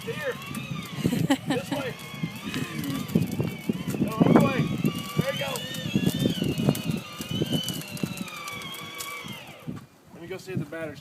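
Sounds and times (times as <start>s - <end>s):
toy car electric motor whining: 0.0s - 9.8s
wheels bumping: 0.0s - 11.0s.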